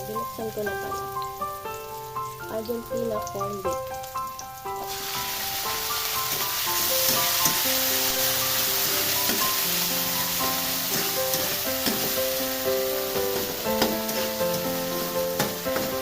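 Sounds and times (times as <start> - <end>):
background music melody: 0.0 - 16.0
food sizzling in oil: 0.0 - 16.0.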